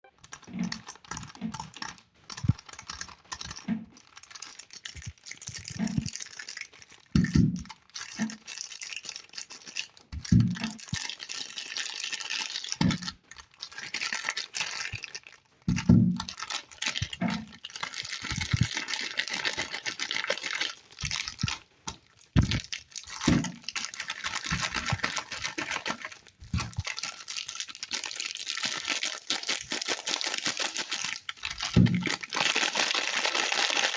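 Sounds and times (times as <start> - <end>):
wrapping crinkling and tearing: 0.1 - 33.9.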